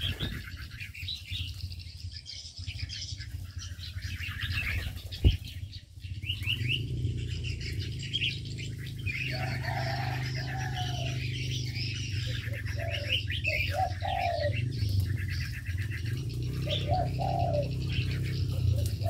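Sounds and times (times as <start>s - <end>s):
dove cooing: 0.0s - 1.7s, 2.9s - 19.0s
small birds chirping: 0.0s - 19.0s
steady low hum: 0.0s - 19.0s.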